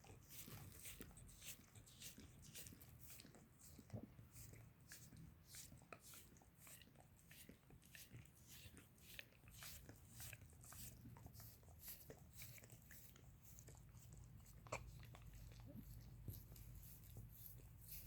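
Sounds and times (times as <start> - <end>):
dog licking wet smacking: 0.0 - 18.0.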